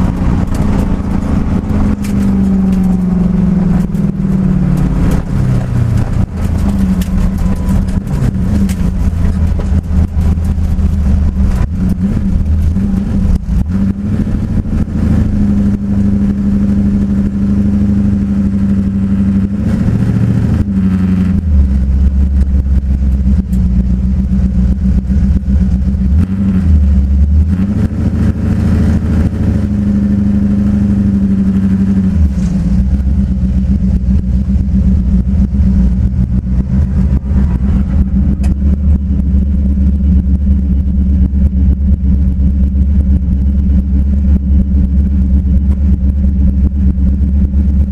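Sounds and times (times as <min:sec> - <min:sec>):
drag car engine revving: 0:00.0 - 0:47.9.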